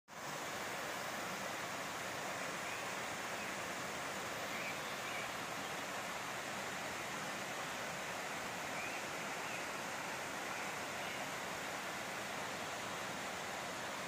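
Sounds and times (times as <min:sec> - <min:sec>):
stream rushing over stones: 0:00.1 - 0:14.0.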